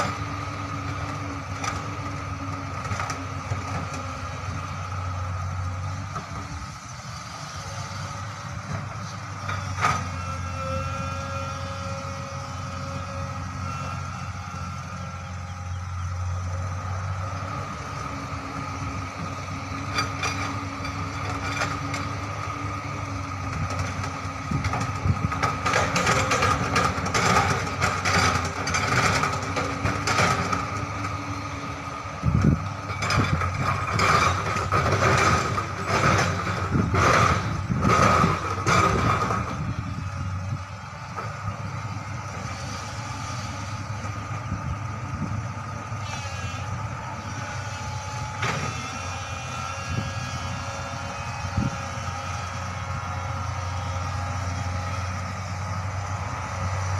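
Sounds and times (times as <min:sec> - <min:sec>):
excavator diesel engine running: 0:00.0 - 0:56.9
hydraulic whine: 0:03.8 - 0:56.9.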